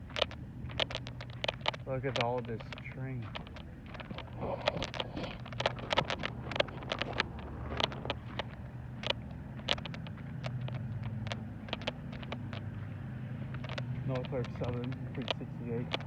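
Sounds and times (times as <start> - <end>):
footsteps crunching on gravel: 0.0 - 16.0
low mechanical hum: 0.0 - 16.0.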